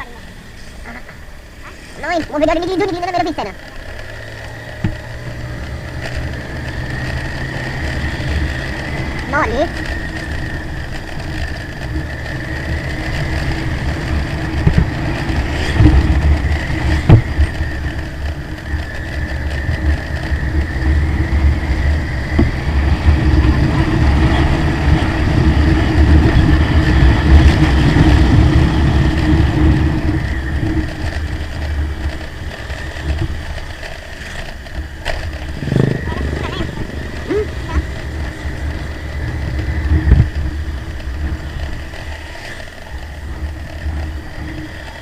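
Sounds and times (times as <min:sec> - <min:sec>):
motorcycle engine rumbling: 0:00.0 - 0:45.0.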